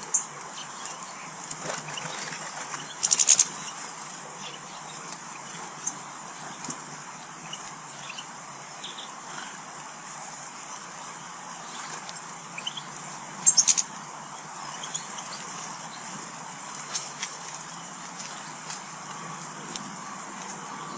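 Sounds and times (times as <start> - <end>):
background hiss: 0.0 - 20.9
small birds chirping: 0.0 - 20.9.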